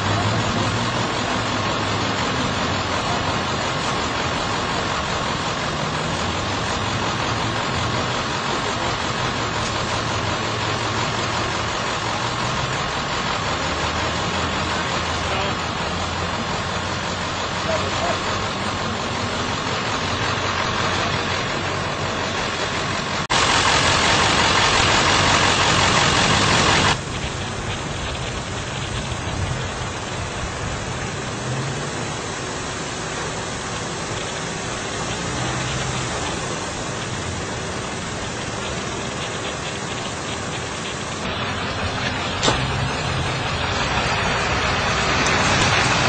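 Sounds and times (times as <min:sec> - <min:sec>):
car engines idling: 0:00.0 - 0:46.0
loud hiss: 0:00.0 - 0:46.0.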